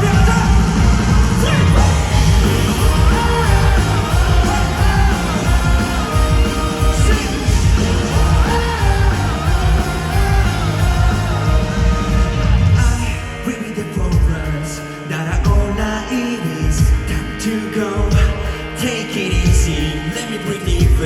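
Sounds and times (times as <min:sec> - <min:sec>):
lead singer singing: 0:00.0 - 0:21.0
rock band playing: 0:00.0 - 0:21.0.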